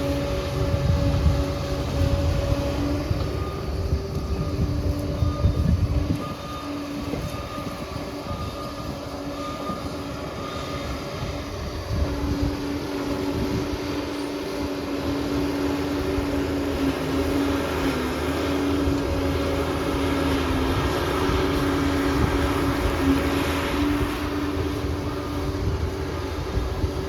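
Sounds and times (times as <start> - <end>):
bulldozer diesel engine whining: 0.0 - 27.0.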